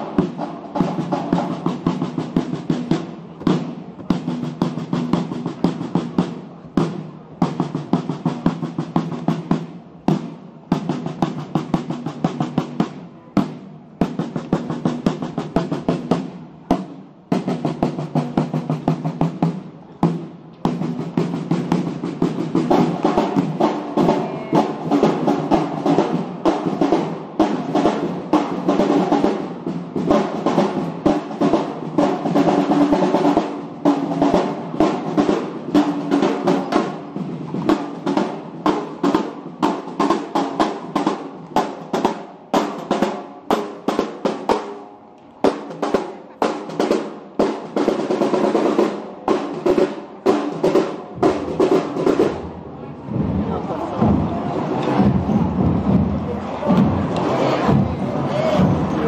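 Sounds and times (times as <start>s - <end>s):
marching snare drums: 0.0s - 59.0s.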